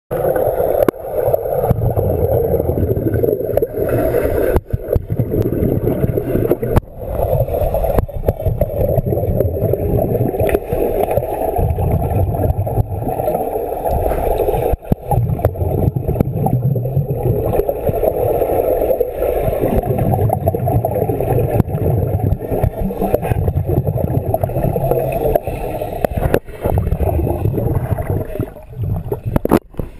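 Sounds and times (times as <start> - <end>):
underwater regulator bubbles gurgling: 0.1 - 29.9.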